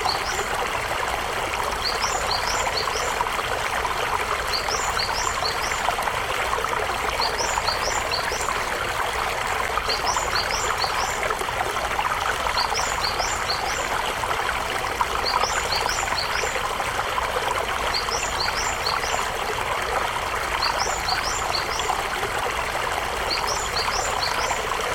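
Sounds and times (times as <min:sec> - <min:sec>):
river water burbling over stones: 0:00.0 - 0:24.9.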